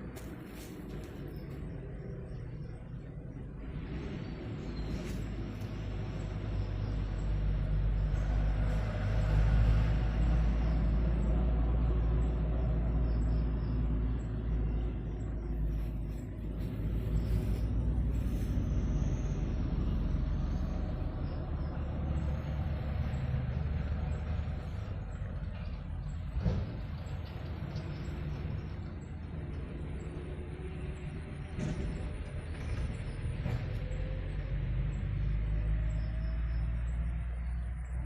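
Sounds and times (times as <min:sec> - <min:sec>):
heavy road vehicles passing: 0:00.0 - 0:38.0.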